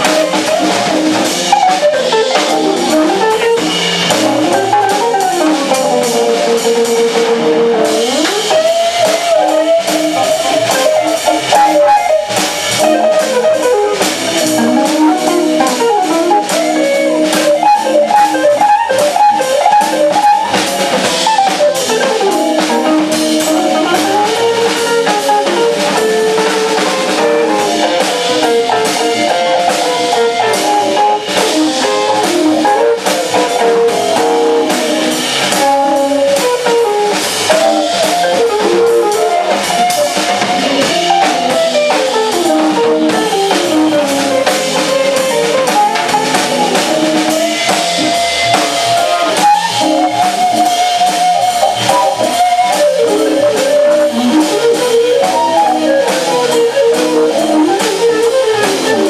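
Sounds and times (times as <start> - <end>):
drum kit with cymbals: 0.0 - 59.0
electric guitar melodic lines: 0.0 - 59.0
organ chords: 0.0 - 59.0.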